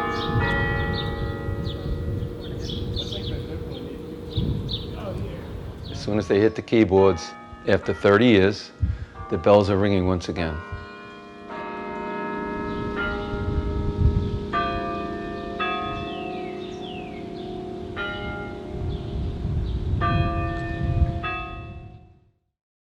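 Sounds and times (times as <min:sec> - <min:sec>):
church bells ringing a tune: 0:00.0 - 0:22.2.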